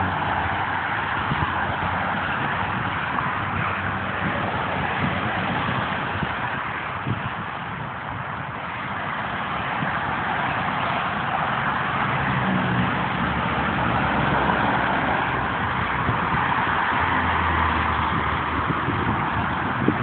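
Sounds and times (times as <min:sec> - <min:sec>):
highway traffic passing: 0:00.0 - 0:20.0
truck going by: 0:00.0 - 0:20.0.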